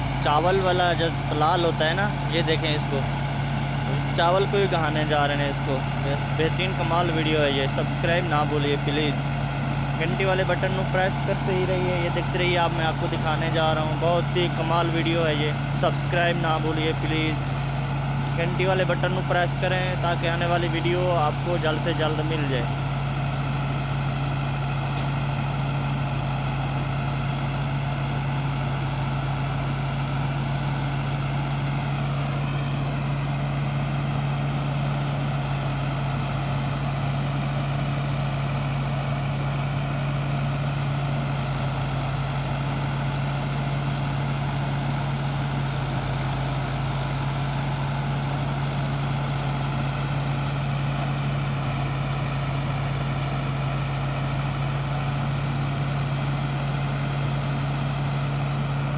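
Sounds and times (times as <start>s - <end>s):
rice thresher running: 0.0s - 58.9s
tractor engine: 0.0s - 58.9s.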